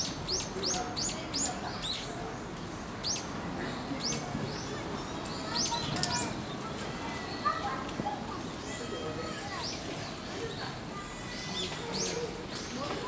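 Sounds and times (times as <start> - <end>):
low background murmur: 0.0 - 13.0.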